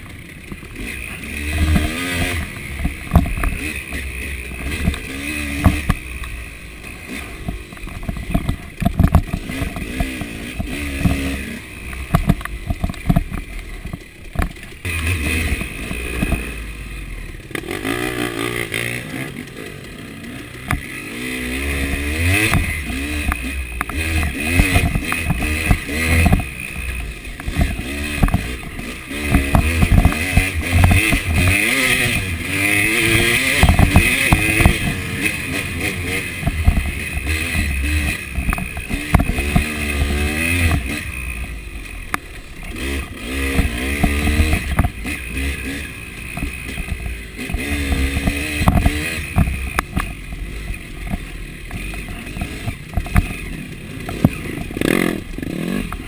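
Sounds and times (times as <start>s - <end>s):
bike clattering over bumps: 0.0s - 16.6s, 21.8s - 56.0s
dirt bike engine revving: 0.0s - 56.0s.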